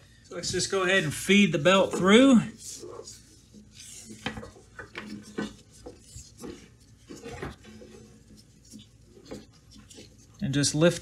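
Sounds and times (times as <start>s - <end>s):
rubber belt scraping metal frame: 0.0s - 11.0s.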